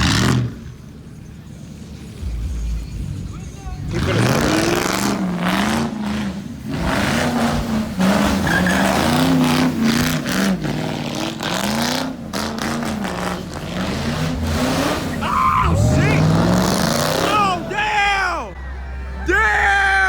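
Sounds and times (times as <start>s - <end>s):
car engine revving: 0.0s - 19.2s
tyres screeching: 3.0s - 20.0s.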